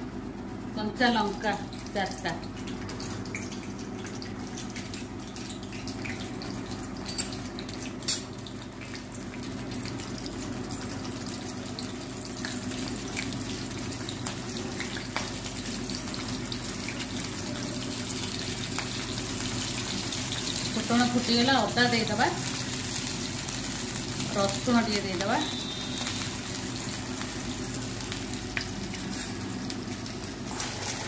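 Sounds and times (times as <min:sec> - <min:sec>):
spices sizzling in hot oil: 0:00.0 - 0:31.0.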